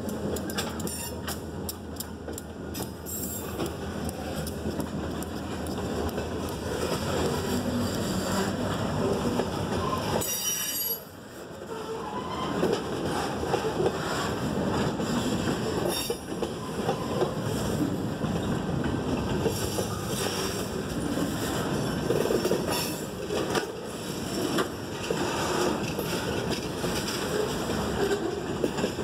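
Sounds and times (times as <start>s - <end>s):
wheels clacking over rail joints: 0.0s - 11.0s, 12.2s - 29.0s
train wheels rumbling on rails: 0.0s - 29.0s.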